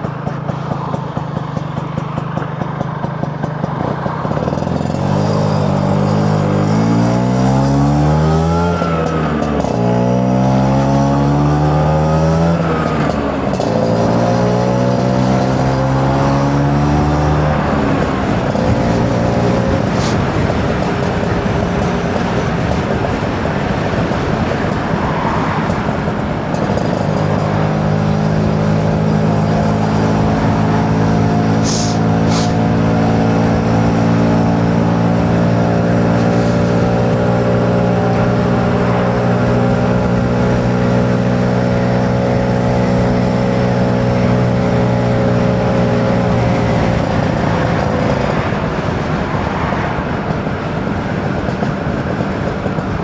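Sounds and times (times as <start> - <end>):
two-stroke engine at steady revs: 0.0 - 53.0
wind and road noise: 0.0 - 53.0.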